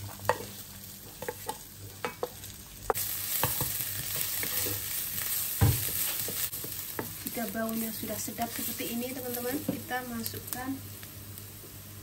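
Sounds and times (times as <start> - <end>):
sizzling in hot oil: 0.0 - 12.0.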